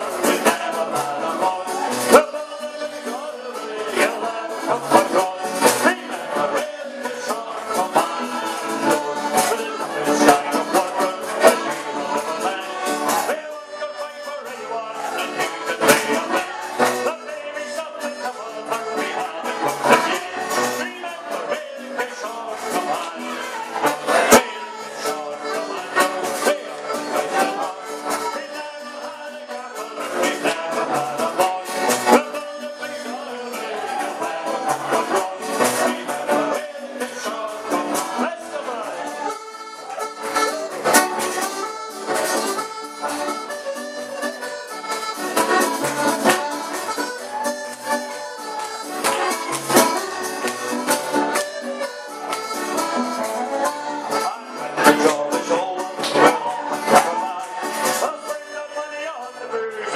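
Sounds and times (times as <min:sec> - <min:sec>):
accordion: 0:00.0 - 0:59.9
folk dance band playing: 0:00.0 - 0:59.9.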